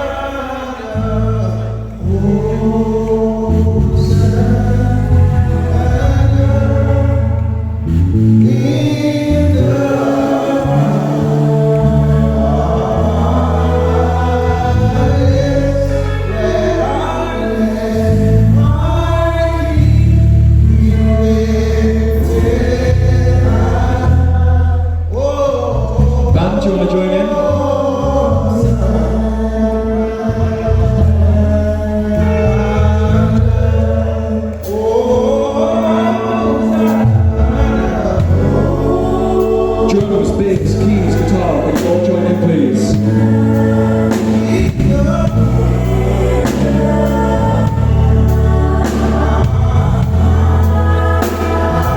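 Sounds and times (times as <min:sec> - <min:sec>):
deep bass notes: 0:00.0 - 0:51.9
group singing in harmony: 0:00.0 - 0:51.9.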